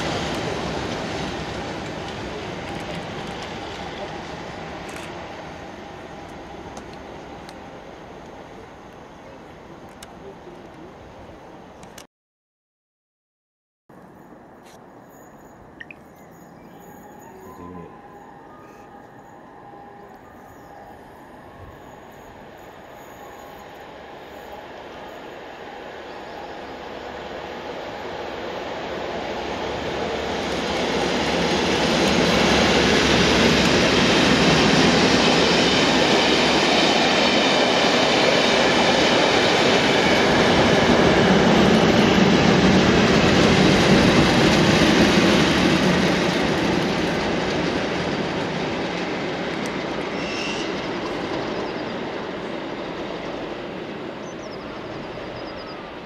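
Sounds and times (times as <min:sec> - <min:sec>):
diesel locomotive engines: 0:00.0 - 0:12.1, 0:13.9 - 0:56.0
train wheels on rails: 0:00.0 - 0:12.1, 0:13.9 - 0:56.0.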